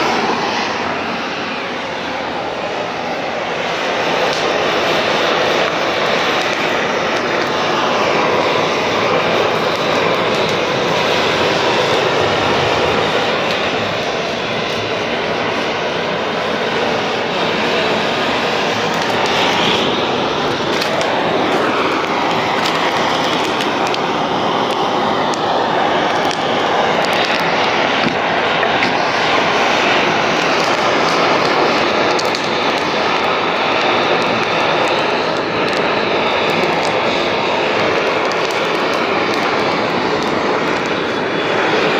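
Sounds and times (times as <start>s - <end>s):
heat gun blowing hot air: 0.0s - 41.9s.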